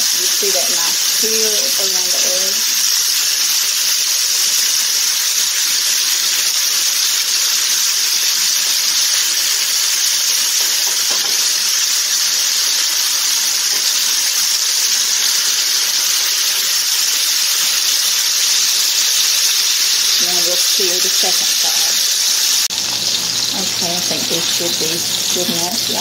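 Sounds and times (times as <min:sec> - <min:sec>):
steaks sizzling in a skillet: 0:00.0 - 0:26.0.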